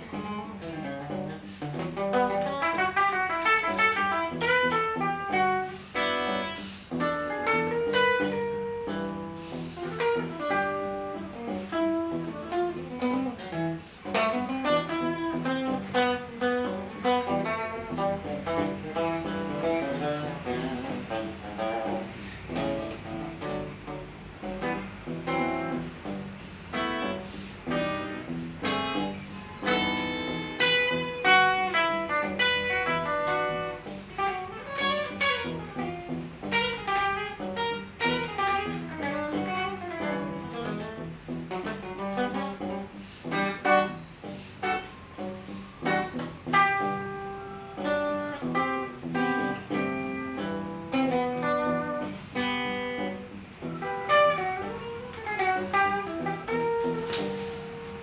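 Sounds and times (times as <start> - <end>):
electric guitar played with pick: 0.0 - 58.0.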